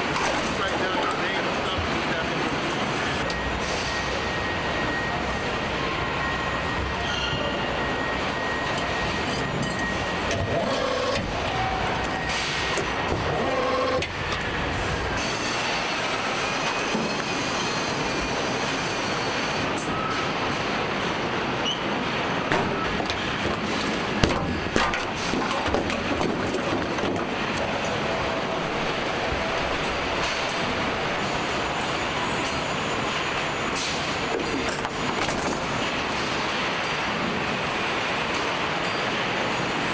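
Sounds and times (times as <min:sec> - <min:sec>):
machinery hum and hiss: 0:00.0 - 0:39.9.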